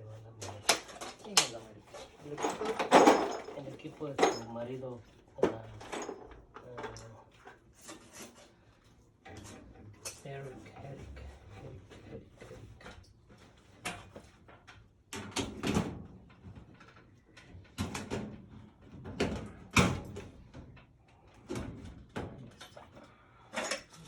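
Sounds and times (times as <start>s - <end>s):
knocks and clatter of work: 0.4s - 8.5s, 9.2s - 24.0s.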